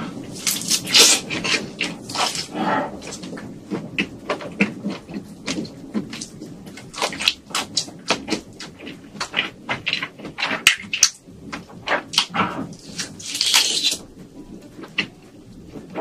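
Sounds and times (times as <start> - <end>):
prawn shells crackling and snapping: 0.0 - 16.0
chewing and smacking: 0.3 - 14.1.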